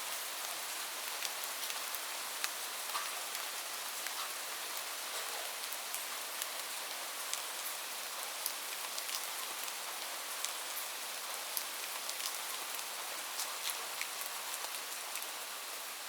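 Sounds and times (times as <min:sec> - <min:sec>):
steady rain hiss: 0:00.0 - 0:16.0
raindrops ticking on surface: 0:00.1 - 0:15.4.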